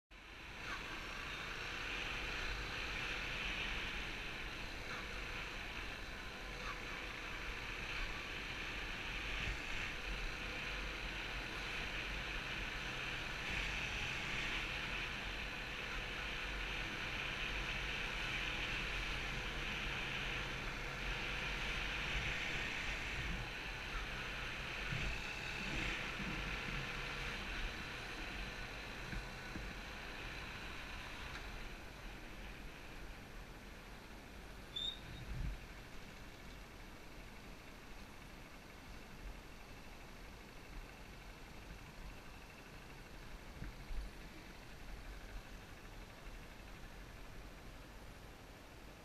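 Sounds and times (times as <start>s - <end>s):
motorcycle engine cruising: 0.2s - 48.0s.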